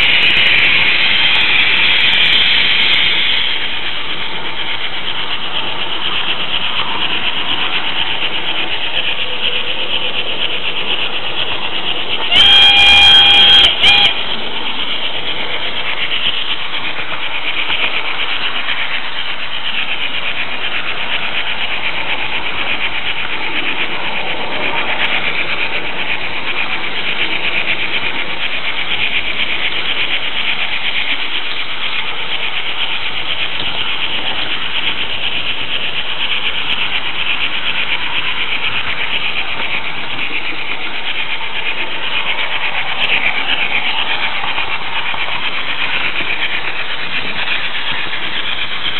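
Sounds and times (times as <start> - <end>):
model train wheels rolling and whirring: 0.0 - 48.9.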